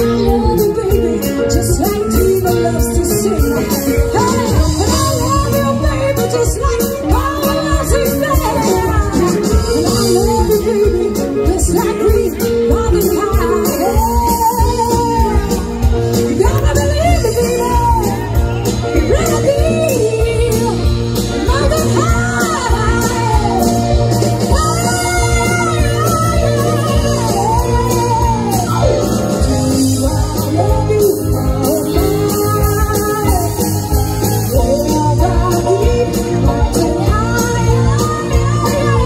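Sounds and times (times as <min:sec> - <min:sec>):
rock band playing: 0:00.0 - 0:39.0
woman singing: 0:00.0 - 0:39.0.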